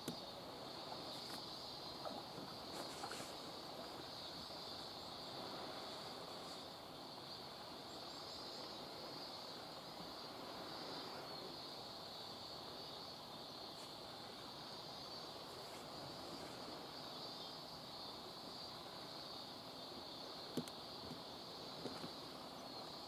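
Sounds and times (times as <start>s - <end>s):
distant insect chorus: 0.0s - 23.0s
faint outdoor background noise: 0.0s - 23.0s.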